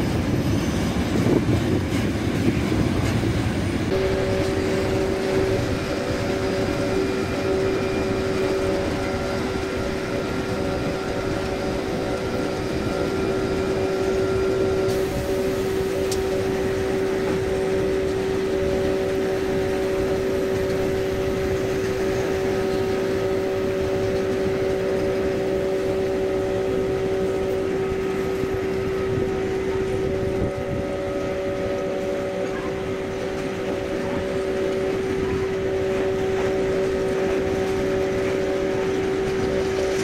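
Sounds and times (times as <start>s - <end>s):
freight train rolling past: 0.0s - 40.0s
higher tone in the hum: 3.9s - 40.0s.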